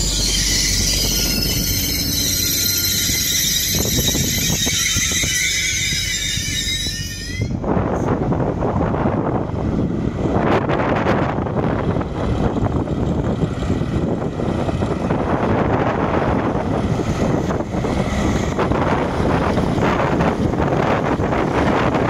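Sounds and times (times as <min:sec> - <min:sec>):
diesel locomotive engines running: 0:00.0 - 0:22.0
train rolling over rails: 0:00.0 - 0:22.0
wind noise on microphone: 0:00.0 - 0:22.0.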